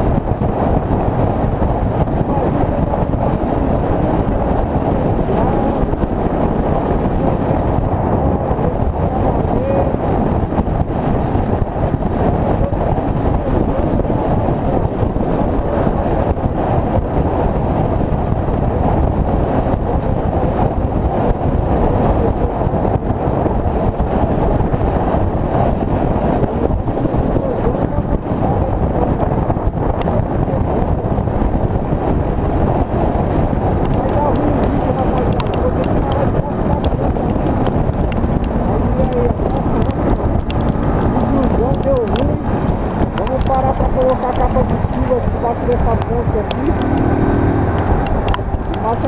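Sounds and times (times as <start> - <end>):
motorcycle road and engine noise: 0.0 - 49.0
wind buffeting microphone: 0.0 - 49.0.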